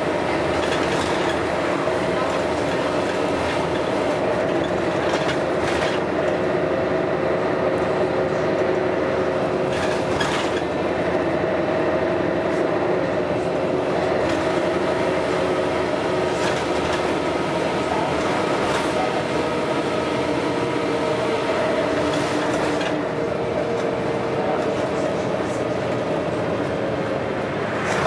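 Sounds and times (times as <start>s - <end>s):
vehicle rattle: 0.0s - 6.5s, 7.6s - 28.0s
bus engine drone with whine: 0.0s - 28.0s.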